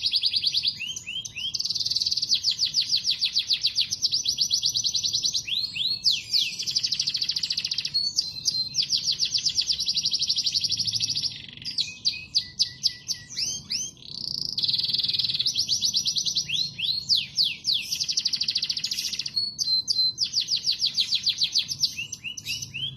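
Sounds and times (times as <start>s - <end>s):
canary singing trills: 0.0s - 22.9s.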